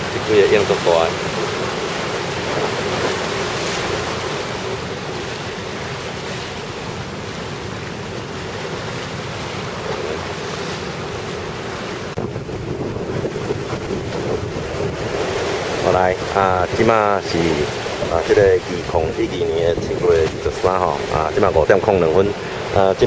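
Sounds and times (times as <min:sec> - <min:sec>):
sea surf breaking: 0:00.0 - 0:23.0
wind buffeting microphone: 0:00.0 - 0:23.0.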